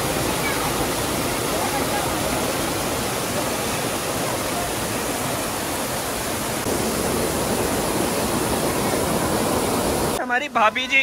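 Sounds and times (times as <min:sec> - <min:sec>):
stream water cascading over rocks: 0:00.0 - 0:11.0.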